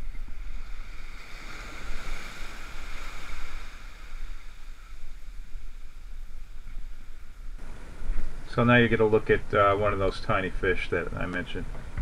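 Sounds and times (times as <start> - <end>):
ocean surf washing in: 0.0 - 12.0
wind rumble on microphone: 0.0 - 12.0.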